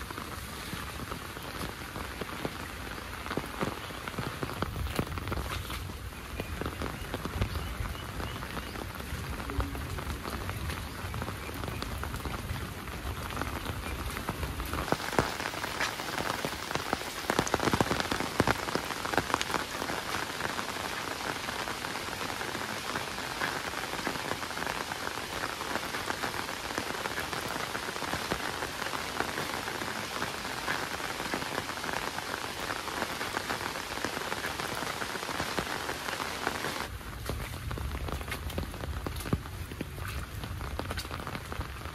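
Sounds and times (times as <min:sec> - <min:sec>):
heavy rain pattering: 0:00.0 - 0:41.9.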